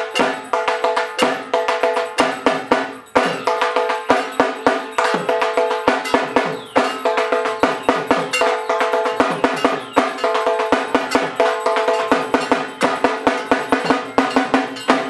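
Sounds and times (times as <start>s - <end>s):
barrel drum played with sticks: 0.0s - 15.0s
ringing metallic clang: 0.0s - 15.0s.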